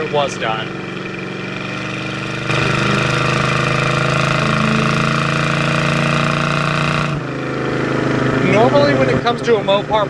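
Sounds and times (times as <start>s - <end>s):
car engine while driving: 0.0s - 10.0s.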